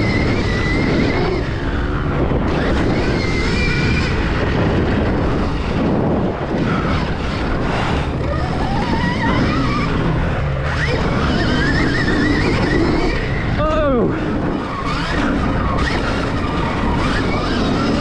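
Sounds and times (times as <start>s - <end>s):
electric motorbike motor whine: 0.0s - 18.0s
wind buffeting microphone: 0.0s - 18.0s.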